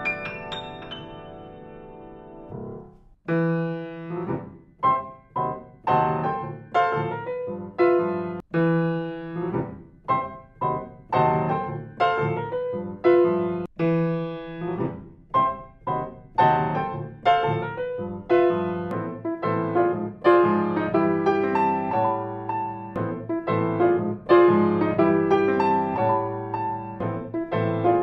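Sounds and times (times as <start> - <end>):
grand piano chords: 0.0 - 28.0.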